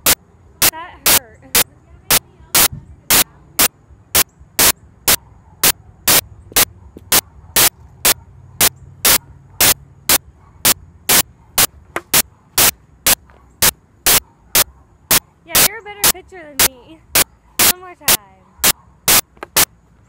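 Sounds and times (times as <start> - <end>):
loud sharp clicks: 0.0 - 19.8.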